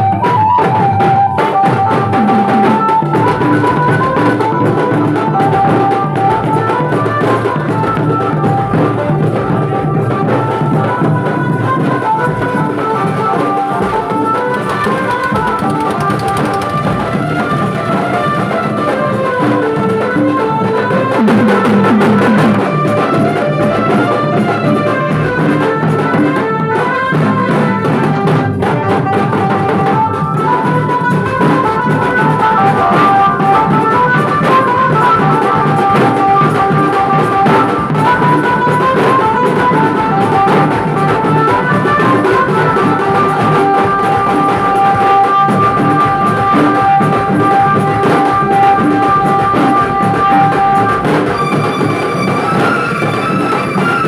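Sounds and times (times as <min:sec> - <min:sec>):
drums pounding fast rhythm: 0:00.0 - 0:54.0
loud melody line: 0:00.0 - 0:54.0.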